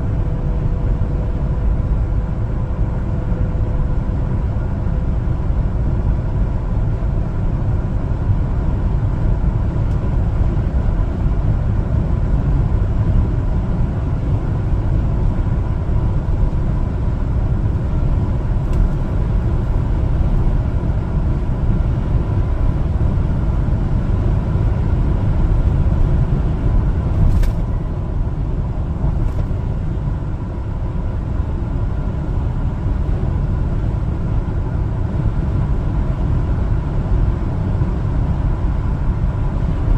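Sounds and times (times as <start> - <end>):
road noise: 0.0 - 39.9
truck engine rumble: 0.0 - 39.9.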